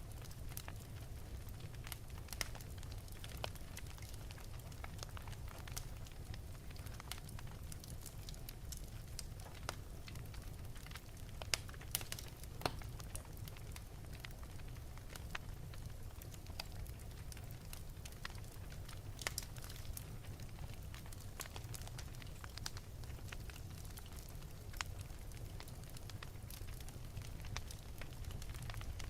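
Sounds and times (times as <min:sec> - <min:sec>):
fire crackling and popping: 0:00.0 - 0:29.0
low rumble of flames: 0:00.0 - 0:29.0.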